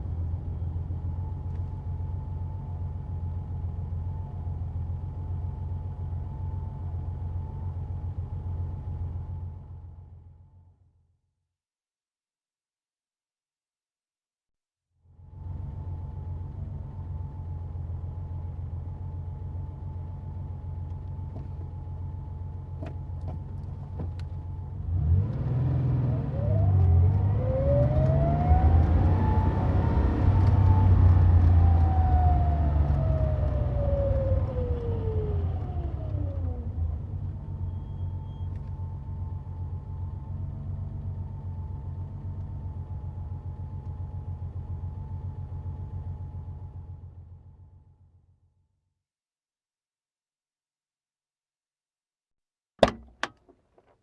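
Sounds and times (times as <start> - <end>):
car engine idling and revving: 0.0 - 10.7, 15.1 - 48.2.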